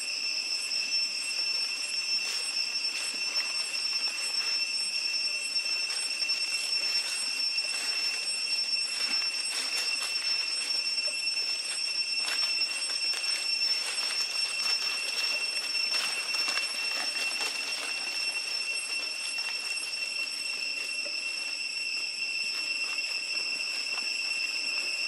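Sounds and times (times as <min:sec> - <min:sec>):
insects droning: 0:00.0 - 0:25.0
dry leaves crackling: 0:02.2 - 0:25.0.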